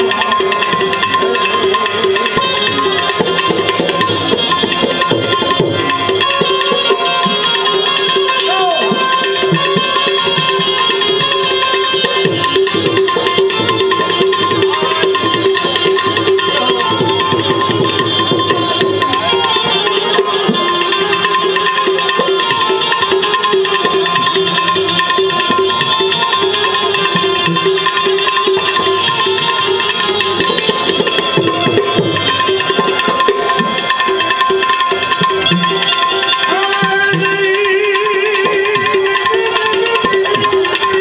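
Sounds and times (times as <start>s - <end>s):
hand drums steady rhythm: 0.0s - 41.0s
held melody notes: 0.0s - 41.0s.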